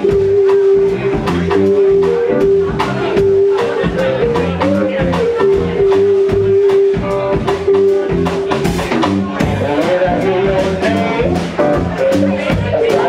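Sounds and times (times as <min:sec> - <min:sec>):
blues band playing: 0:00.0 - 0:13.0
electric guitar lead line: 0:00.0 - 0:13.0.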